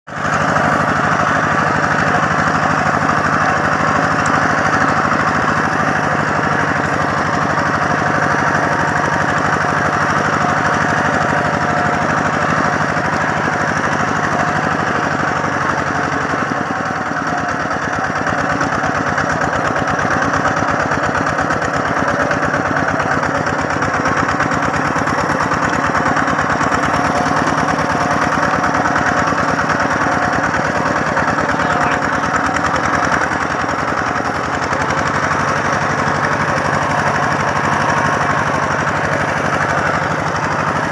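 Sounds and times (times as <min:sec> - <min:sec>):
tractor engine chugging: 0:00.1 - 0:40.9.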